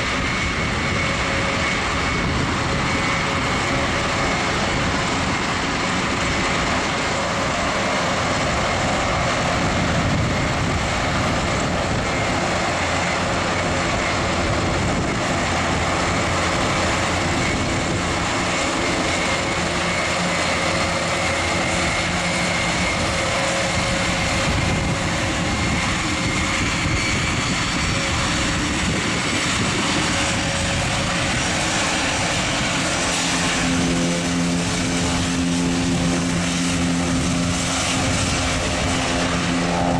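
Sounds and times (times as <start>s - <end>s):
propeller drone with whine: 0.0s - 39.9s.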